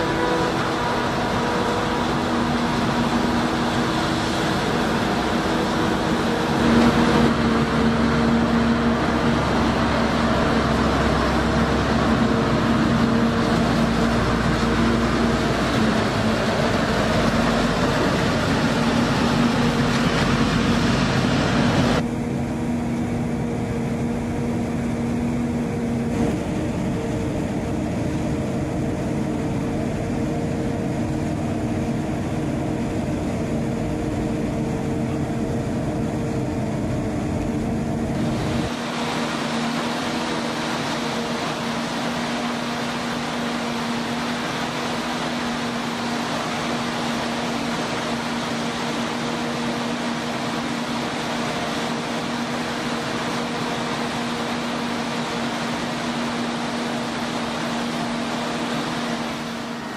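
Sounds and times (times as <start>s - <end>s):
forage harvester droning: 0.0s - 59.9s.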